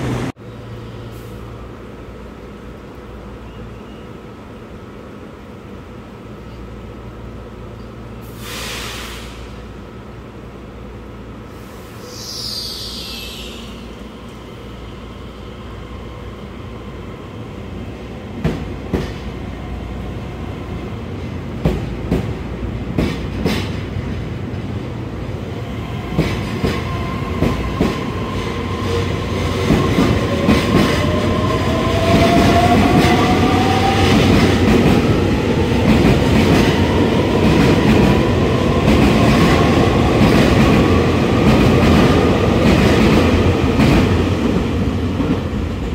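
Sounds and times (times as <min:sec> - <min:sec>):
train running noise: 0:07.2 - 0:45.9.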